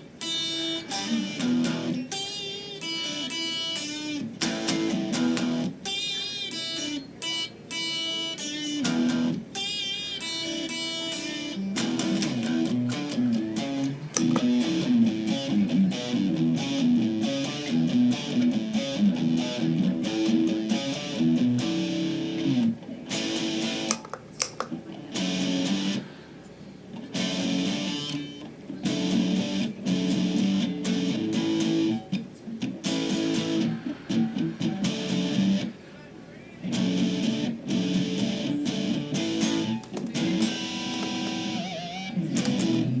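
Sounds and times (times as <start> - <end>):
electric guitar chords: 0.0 - 24.0, 24.6 - 35.9, 36.6 - 43.0
overdriven electric guitar riffing: 0.0 - 24.0, 24.7 - 43.0.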